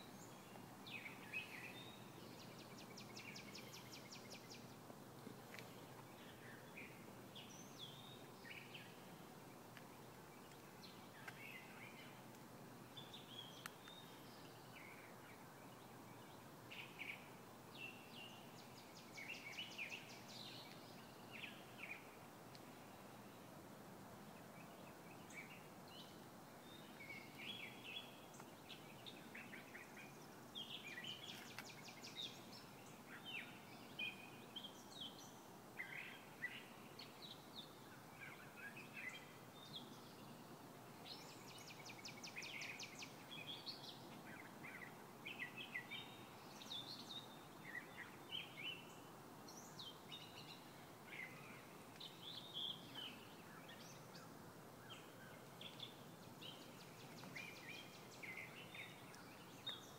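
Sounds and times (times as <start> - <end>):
low background noise: 0.0 - 59.9
songbirds chirping and singing: 0.0 - 59.9.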